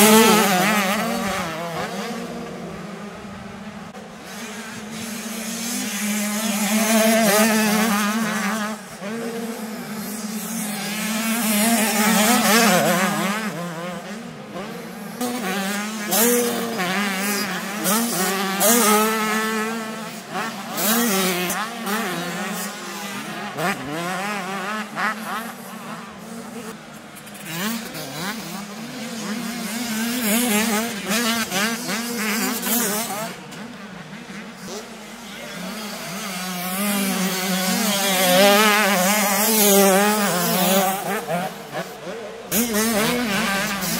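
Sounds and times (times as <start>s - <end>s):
motocross bikes racing past: 0.0s - 43.9s.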